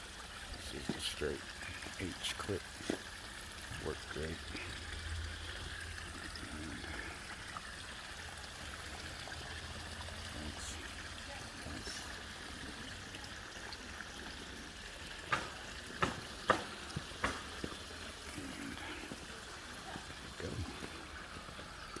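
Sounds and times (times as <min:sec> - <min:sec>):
running water hiss: 0:00.0 - 0:22.0.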